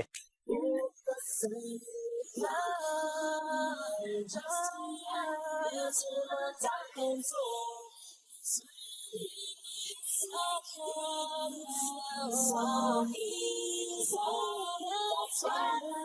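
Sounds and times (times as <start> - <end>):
woman singing unaccompanied: 0.5 - 16.0.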